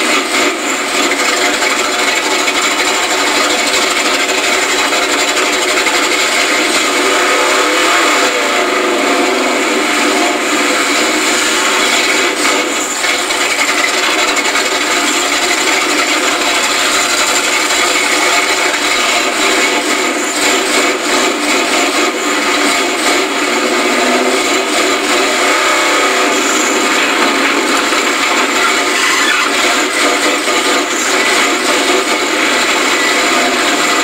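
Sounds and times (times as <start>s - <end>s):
truck engine running: 0.0s - 34.0s.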